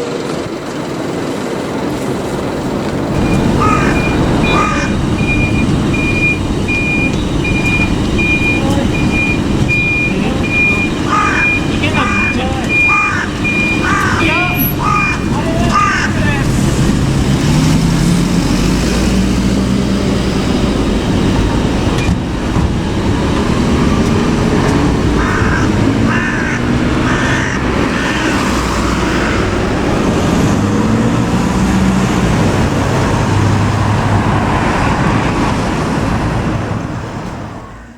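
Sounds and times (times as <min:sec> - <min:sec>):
large vehicle engine drone: 0:00.0 - 0:37.9
traffic noise: 0:00.0 - 0:37.9.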